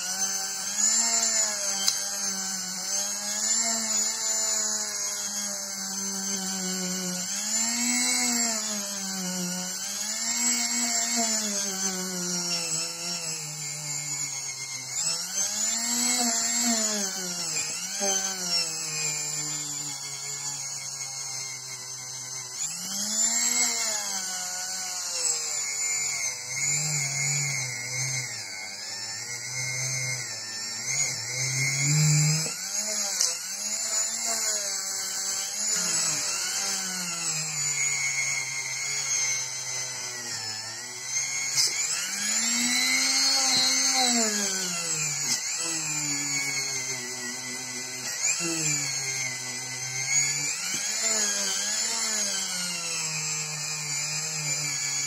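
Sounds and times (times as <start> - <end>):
rotary tool grinding steel: 0.0 - 55.0.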